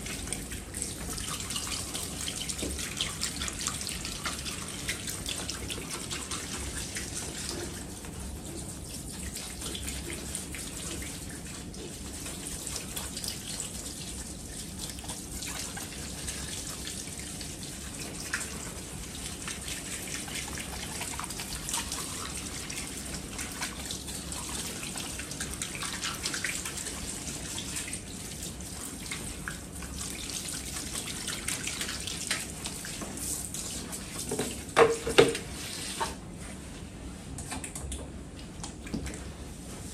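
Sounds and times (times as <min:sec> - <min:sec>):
shower sprayer water running: 0:00.0 - 0:36.2.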